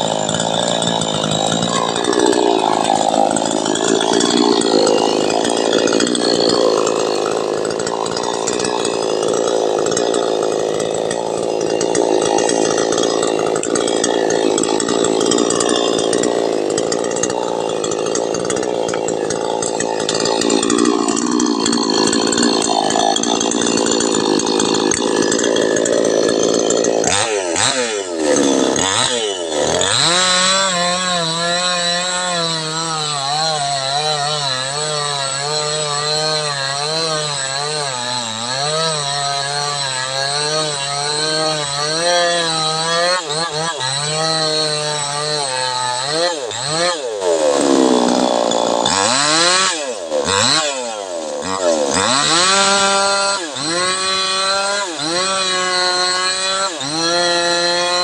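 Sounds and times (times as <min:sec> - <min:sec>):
chainsaw cutting and revving: 0:00.0 - 0:58.0.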